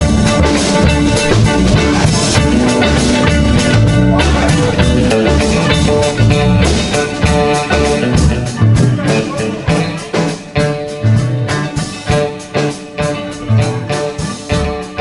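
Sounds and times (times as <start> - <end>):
band playing upbeat groove: 0.0 - 15.0.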